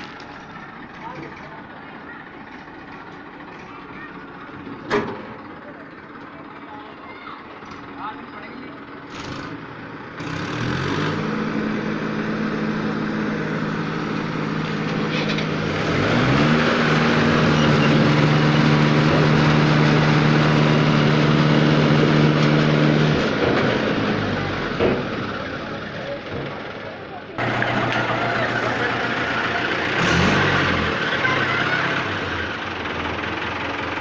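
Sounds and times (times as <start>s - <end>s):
diesel tractor engines revving: 0.0s - 34.0s.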